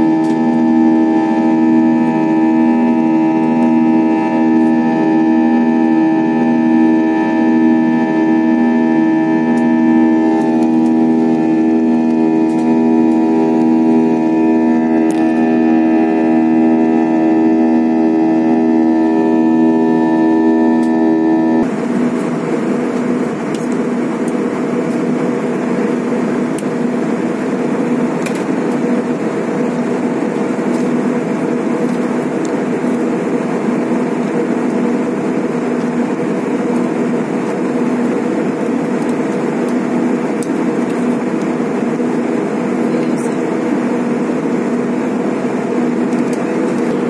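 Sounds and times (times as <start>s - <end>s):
airliner cabin engine roar: 0.0s - 47.0s.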